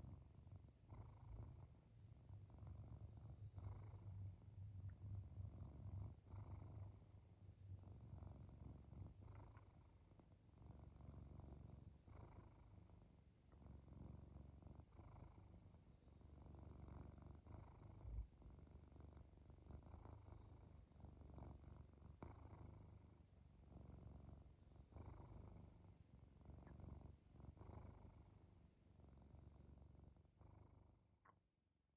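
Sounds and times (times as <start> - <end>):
cat purring: 0.0 - 31.6.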